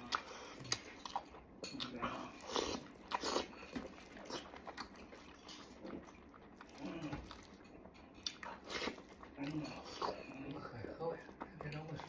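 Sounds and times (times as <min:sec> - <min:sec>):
faint wet chewing: 0:00.0 - 0:12.0.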